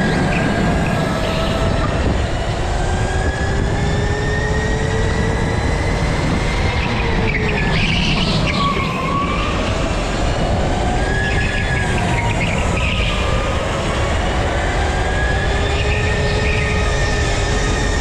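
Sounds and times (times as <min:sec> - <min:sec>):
go-kart motor whining: 0:00.0 - 0:18.0
rumble of tyres and chassis: 0:00.0 - 0:18.0.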